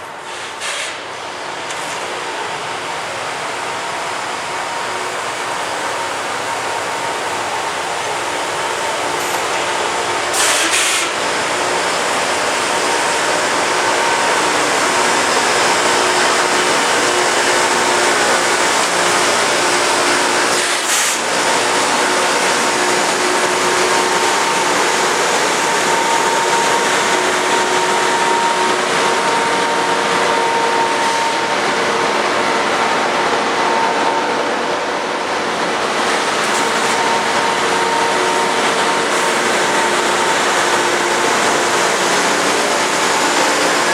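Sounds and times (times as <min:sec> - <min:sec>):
grinding stones hissing on rail: 0:00.0 - 0:43.9
train machinery hum: 0:00.0 - 0:43.9.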